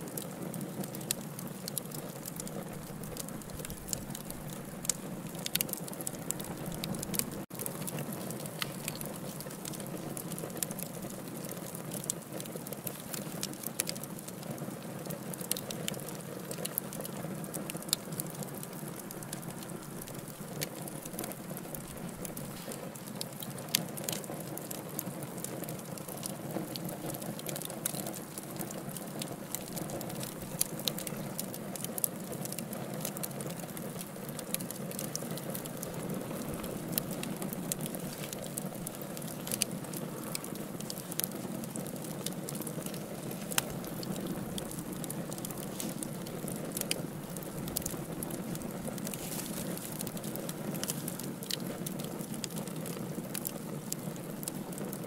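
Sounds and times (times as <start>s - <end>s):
low rush of flames: 0.0s - 55.0s
wood fire crackling and popping: 0.0s - 55.0s.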